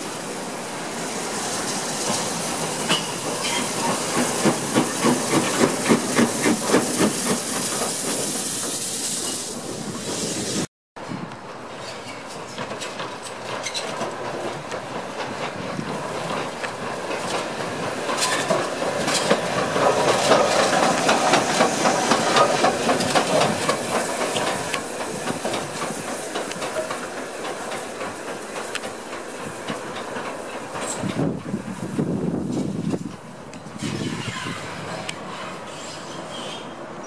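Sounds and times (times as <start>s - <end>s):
steam hissing: 0.0s - 10.7s, 13.9s - 36.8s
train wheels clattering on rails: 1.4s - 36.8s.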